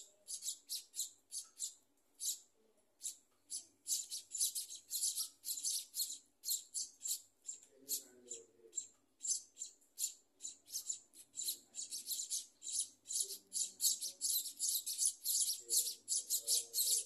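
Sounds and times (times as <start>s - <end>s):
nestlings begging chirps: 0.0s - 17.0s.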